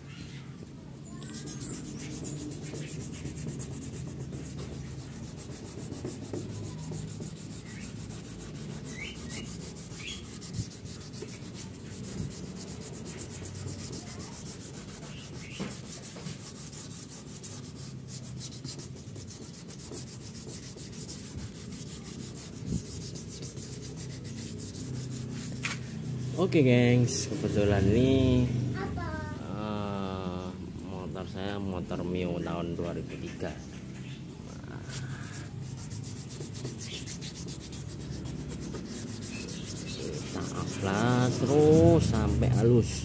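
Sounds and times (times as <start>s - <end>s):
sandpaper rubbing on plastic: 1.3s - 27.6s, 34.8s - 43.0s.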